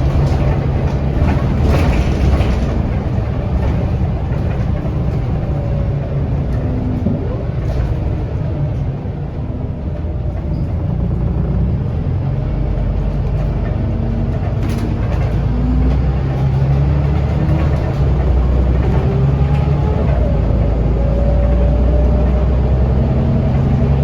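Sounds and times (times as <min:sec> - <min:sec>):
bus diesel engine droning: 0:00.0 - 0:24.0.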